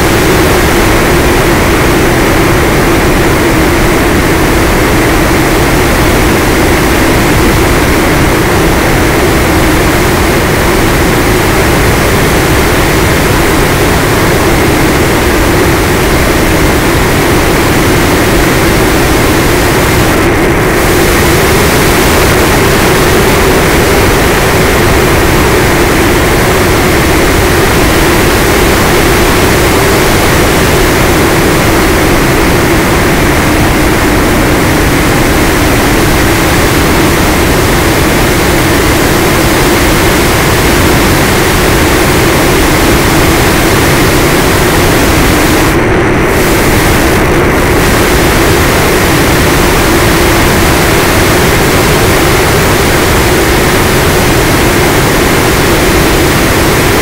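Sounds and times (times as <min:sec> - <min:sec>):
airflow noise: 0:00.0 - 0:57.0
electric motor and propeller drone: 0:00.0 - 0:57.0.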